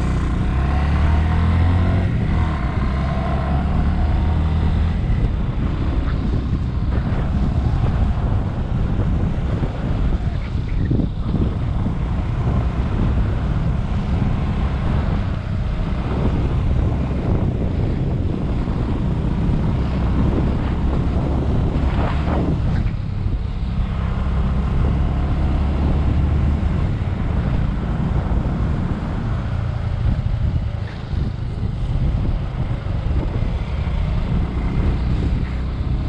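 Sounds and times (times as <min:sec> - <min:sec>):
motorcycle running: 0:00.0 - 0:36.0
wind buffeting microphone: 0:00.0 - 0:36.0.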